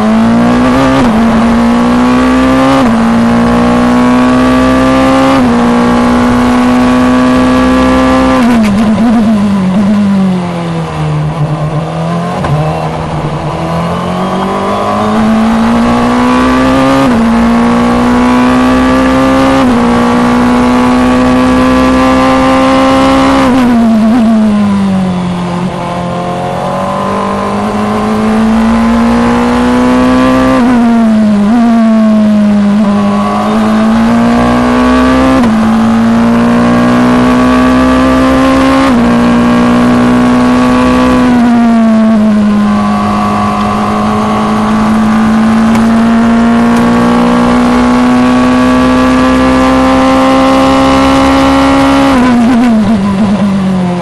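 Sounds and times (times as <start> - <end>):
racing car engine at high revs: 0.0 - 54.0.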